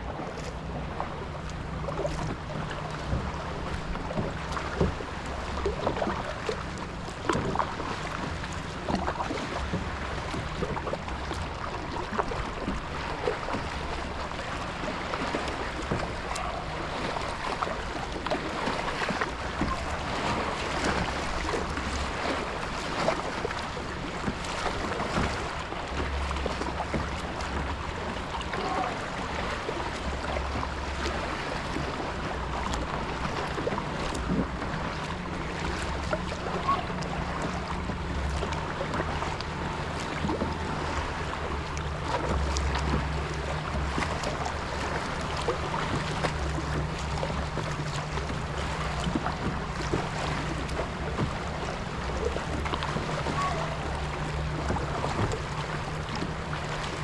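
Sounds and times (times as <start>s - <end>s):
water sloshing around kayak: 0.0s - 57.0s.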